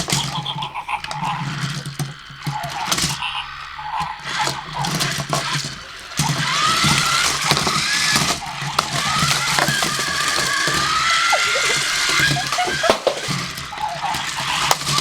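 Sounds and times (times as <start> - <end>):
plastic toys knocking and rattling: 0.0 - 15.0
toy motors whining: 0.0 - 15.0.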